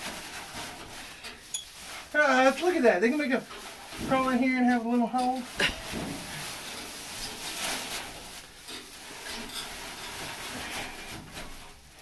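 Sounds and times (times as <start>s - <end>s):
dry hay rustling: 0.0s - 12.0s.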